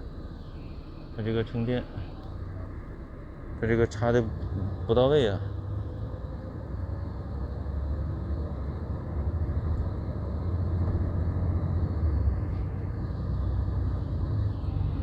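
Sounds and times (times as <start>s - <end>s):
coach engine and road rumble: 0.0s - 15.0s.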